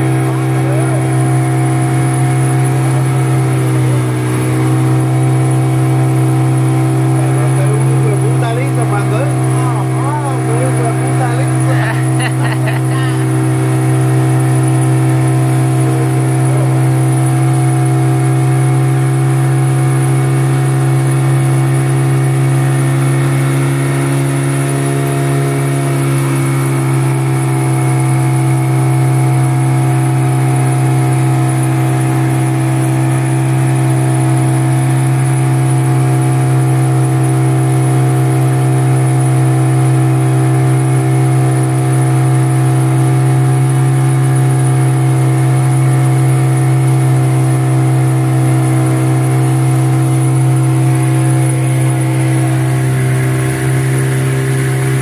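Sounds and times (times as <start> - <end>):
outboard motor droning: 0.0 - 55.0.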